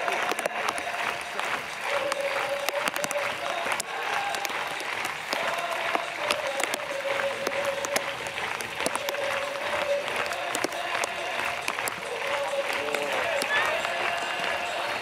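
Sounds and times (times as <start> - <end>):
stadium crowd clapping: 0.0 - 15.0.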